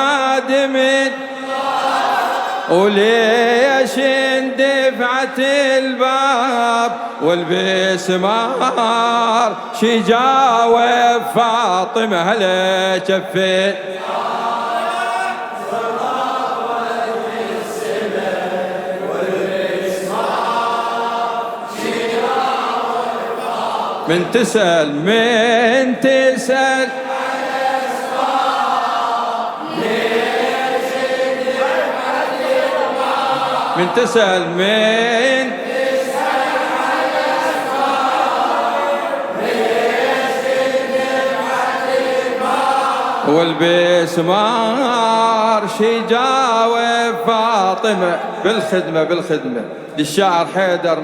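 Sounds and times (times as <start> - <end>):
chorus chanting long notes: 0.0 - 48.4.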